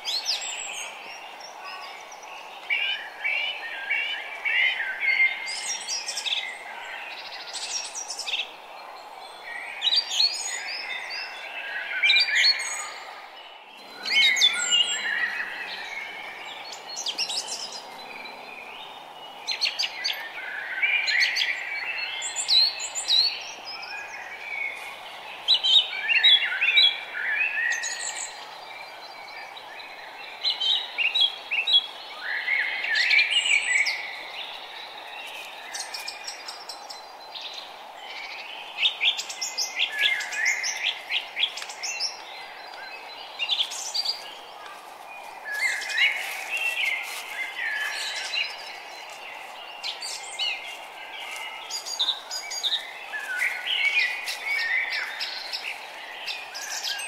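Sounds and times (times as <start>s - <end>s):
songbirds singing: 0.0s - 57.0s
steady background hiss: 0.0s - 57.0s.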